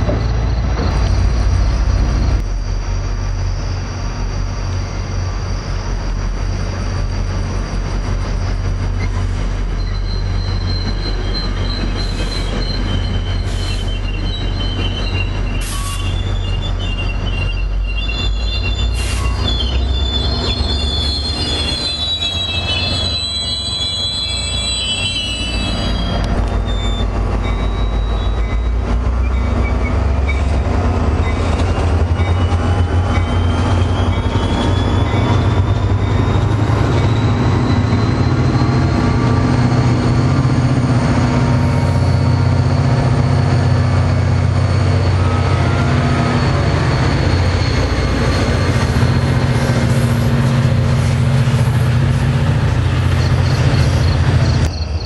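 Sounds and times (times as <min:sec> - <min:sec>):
diesel locomotive engine: 0:00.0 - 0:55.0
train wheels on rail: 0:00.0 - 0:55.0.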